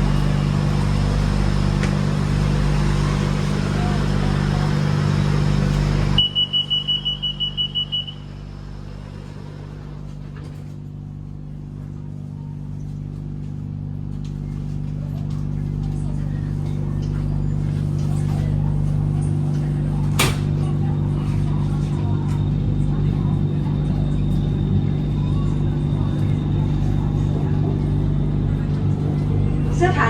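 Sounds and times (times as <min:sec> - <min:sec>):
low train hum: 0:00.0 - 0:30.0
train running noise: 0:00.0 - 0:30.0.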